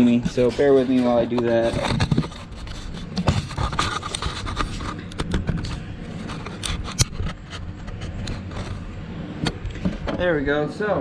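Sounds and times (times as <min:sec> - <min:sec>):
clicks knocks and scraping: 0:00.0 - 0:10.3.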